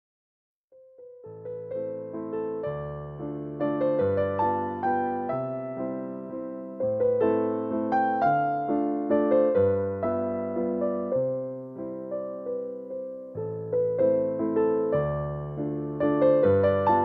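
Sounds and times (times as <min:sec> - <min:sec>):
gentle electric piano melody: 0:00.8 - 0:17.0.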